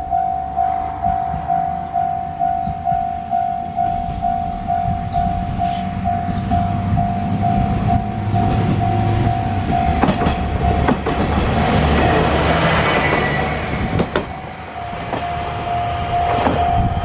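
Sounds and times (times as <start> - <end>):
diesel railcar rumbling: 0.0 - 17.0
level-crossing warning bell: 0.0 - 17.0.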